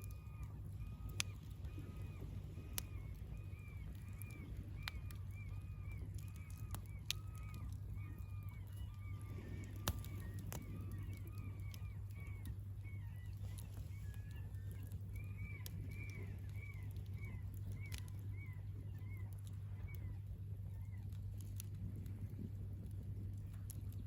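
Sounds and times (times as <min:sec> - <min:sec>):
birds calling: 0:00.0 - 0:22.4
campfire crackling and popping: 0:00.0 - 0:24.0
steady low hum: 0:00.0 - 0:24.0.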